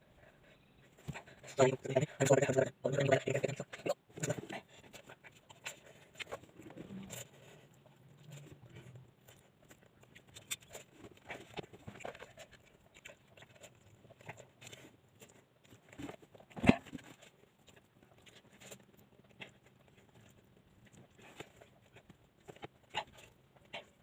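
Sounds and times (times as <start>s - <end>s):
person chewing: 0.2s - 24.0s.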